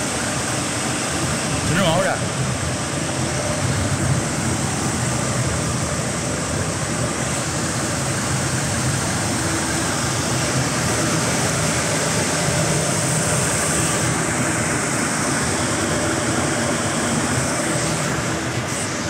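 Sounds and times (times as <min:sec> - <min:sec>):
concrete mixer truck running: 0:00.0 - 0:19.0.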